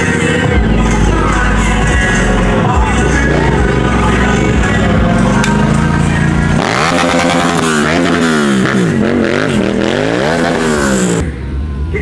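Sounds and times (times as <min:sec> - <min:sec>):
dull low sound: 0:00.0 - 0:12.0
motorcycle engine revving: 0:00.0 - 0:12.0.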